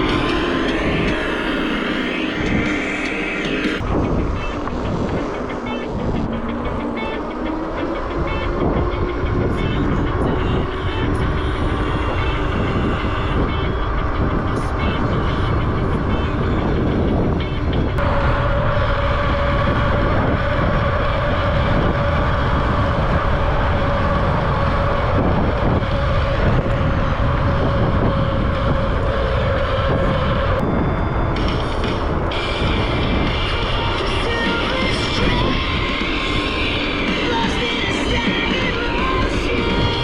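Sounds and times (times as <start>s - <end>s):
steady hum: 0.0s - 40.0s
tyre and road noise: 0.0s - 40.0s
wind rushing over microphone: 0.0s - 40.0s.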